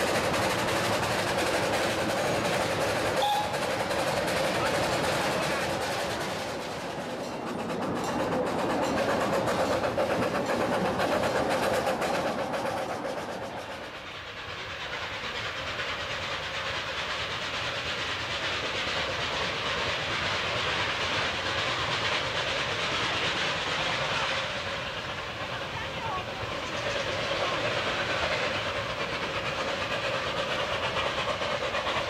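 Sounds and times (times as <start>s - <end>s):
clattering train wheels: 0.0s - 32.0s
steam locomotive chuffing: 0.0s - 32.0s
train rumble and hiss: 0.0s - 32.0s.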